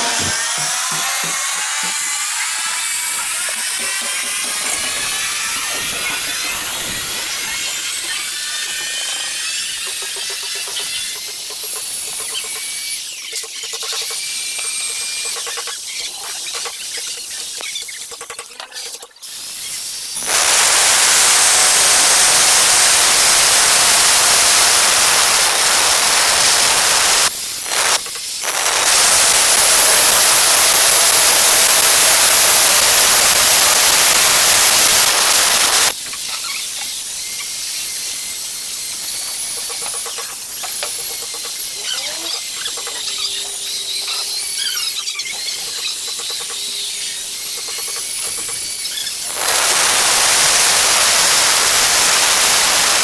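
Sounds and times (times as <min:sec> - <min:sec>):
angle grinder cutting tile: 0:00.0 - 0:18.5, 0:19.3 - 0:53.0.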